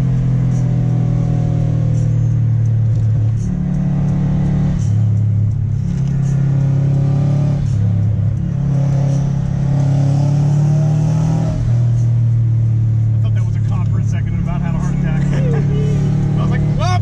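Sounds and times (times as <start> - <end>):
car engine accelerating through gears: 0.0 - 17.0.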